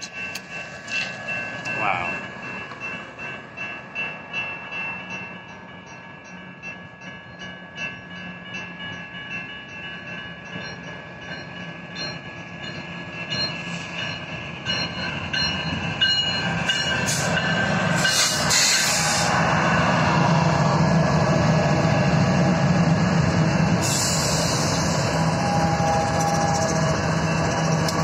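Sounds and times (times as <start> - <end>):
diesel locomotives approaching: 0.0 - 28.0
railroad crossing bell ringing: 0.0 - 28.0.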